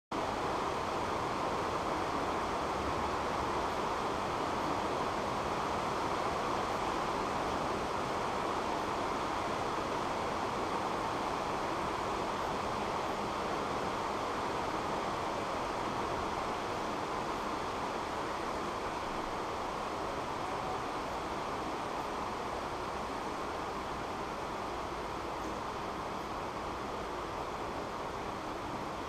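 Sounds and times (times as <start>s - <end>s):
hiss of room noise: 0.2s - 29.0s.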